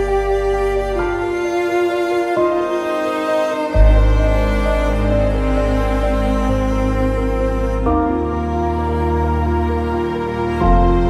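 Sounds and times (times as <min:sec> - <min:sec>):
slow sad music with held chords: 0:00.0 - 0:11.0.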